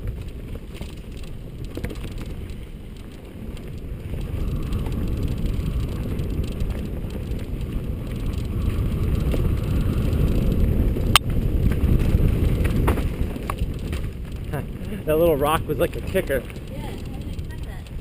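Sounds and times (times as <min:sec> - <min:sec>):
bike tyre and frame rattle: 0:00.0 - 0:18.0
wind buffeting microphone: 0:00.0 - 0:18.0.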